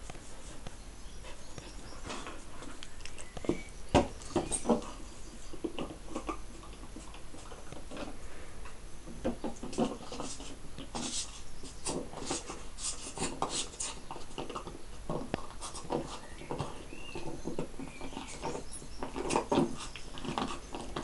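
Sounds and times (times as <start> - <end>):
dogs scuffling: 0.0 - 8.2, 9.1 - 21.0
dogs mouthing and snuffling: 0.1 - 8.2, 9.2 - 21.0.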